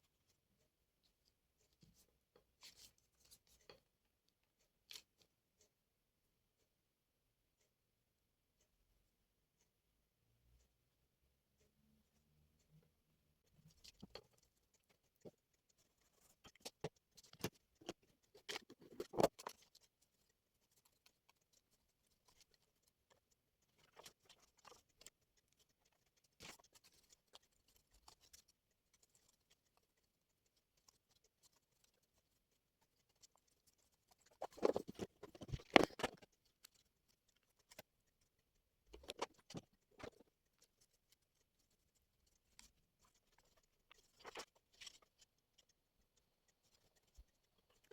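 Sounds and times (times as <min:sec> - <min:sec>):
small clicks taps and rustles: 0:00.0 - 0:06.8, 0:12.6 - 0:47.9.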